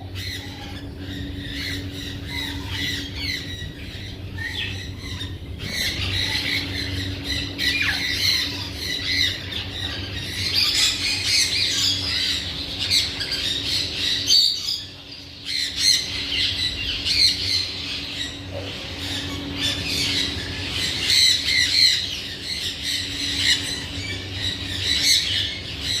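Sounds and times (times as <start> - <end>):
parakeet squawking and chattering: 0.0 - 26.0
steady low hum: 0.0 - 26.0.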